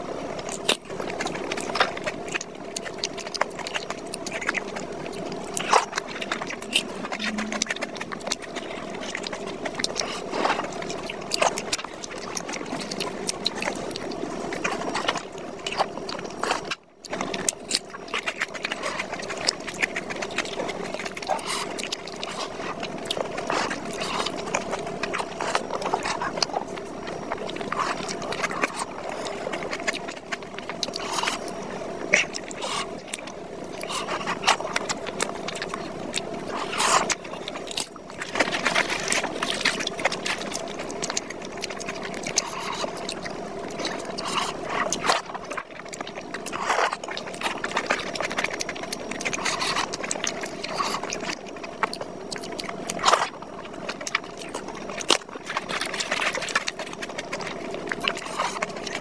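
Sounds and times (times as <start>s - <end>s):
low steady hum: 0.0s - 59.0s
wet chewing and mouth clicks: 0.0s - 59.0s.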